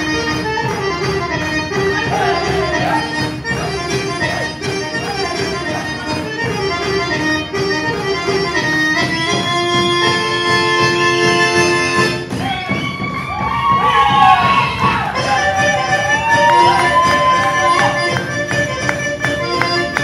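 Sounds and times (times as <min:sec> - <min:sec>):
accordion-led folk dance music: 0:00.0 - 0:20.0.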